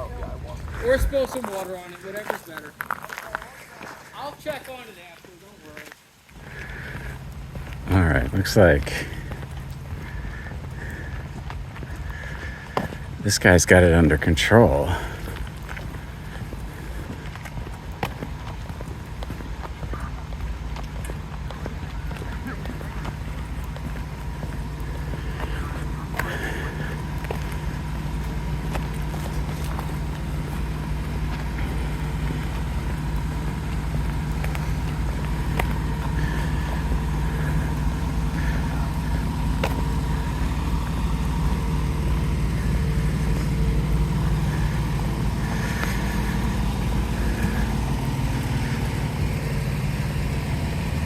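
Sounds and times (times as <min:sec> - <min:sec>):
fire truck engine idling: 0:00.0 - 0:51.0.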